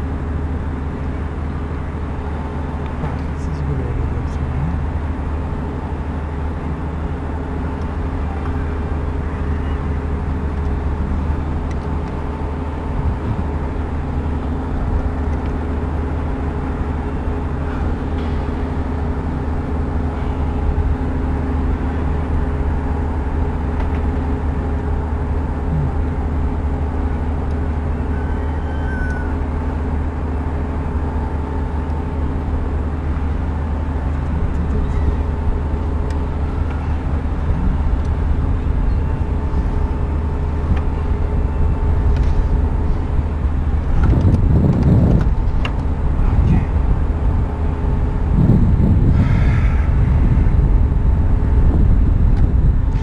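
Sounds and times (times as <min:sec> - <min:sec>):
low mechanical hum and rumble: 0:00.0 - 0:53.0.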